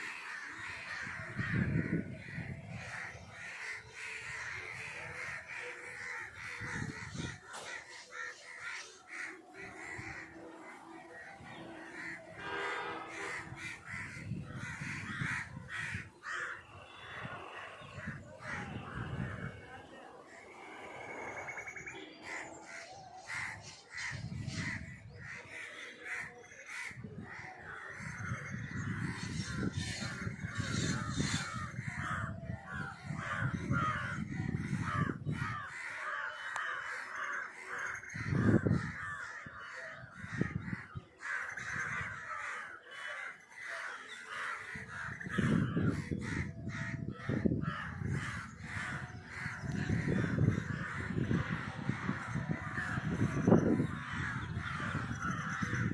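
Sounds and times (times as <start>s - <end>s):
crows cawing: 0.0s - 55.9s.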